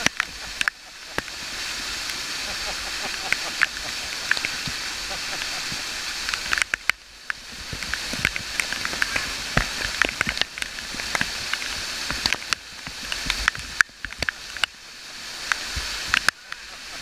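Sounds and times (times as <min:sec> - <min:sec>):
water splashes and drops: 0:00.0 - 0:17.0
waterfall pouring: 0:00.0 - 0:17.0.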